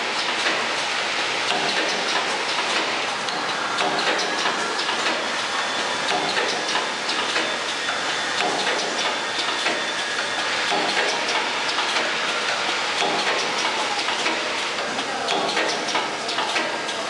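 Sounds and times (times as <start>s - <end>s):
machine clattering with small clicks: 0.0s - 17.0s.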